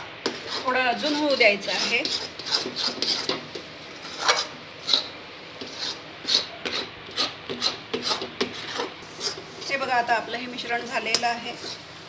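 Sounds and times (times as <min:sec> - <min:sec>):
metal spatula scraping a pan: 0:00.2 - 0:09.9.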